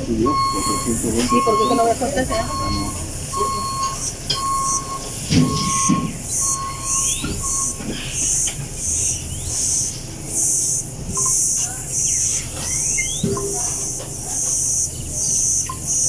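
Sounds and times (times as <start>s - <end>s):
insect chirping: 0.0s - 13.9s.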